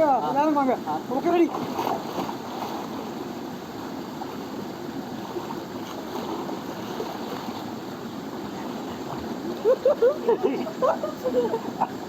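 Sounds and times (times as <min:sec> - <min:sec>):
fast-flowing stream water: 0:00.0 - 0:12.0.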